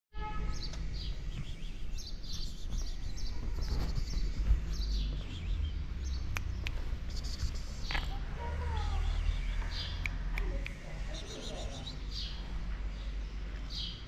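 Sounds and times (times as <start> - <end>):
low outdoor rumble: 0.3 - 14.0
small birds chirping: 0.5 - 14.0.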